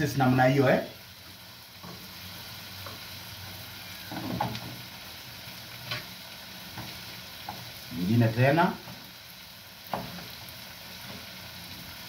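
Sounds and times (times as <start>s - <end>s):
sausage sizzling in a pan: 0.0s - 12.0s.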